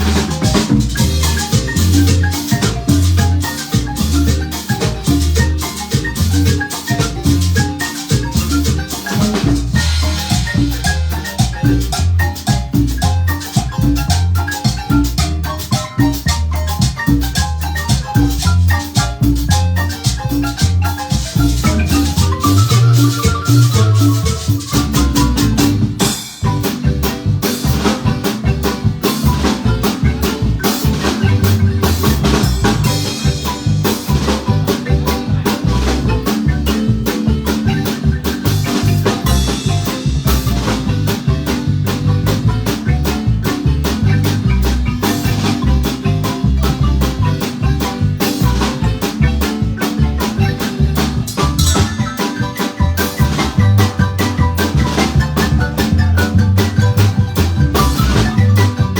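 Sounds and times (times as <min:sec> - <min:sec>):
bass line: 0:00.0 - 0:58.9
marimba band playing: 0:00.0 - 0:58.9
shakers and percussion: 0:00.0 - 0:58.9.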